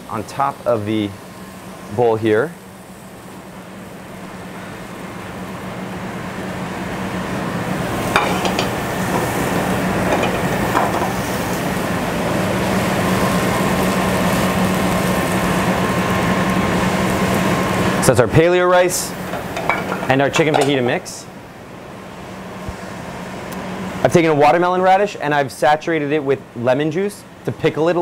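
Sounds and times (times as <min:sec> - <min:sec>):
kitchen hum and hiss: 0:00.0 - 0:28.0.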